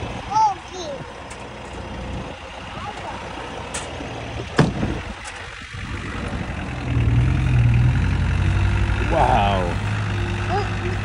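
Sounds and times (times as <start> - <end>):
truck engines running: 0.0 - 11.0.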